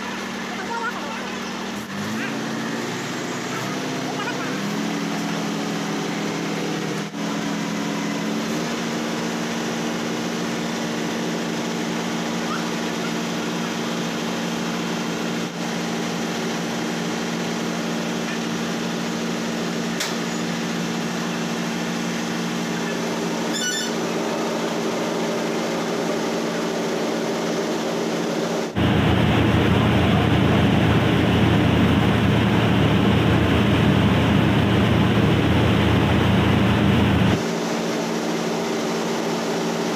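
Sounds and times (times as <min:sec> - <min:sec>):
rice mill machine humming: 0:00.0 - 0:39.9.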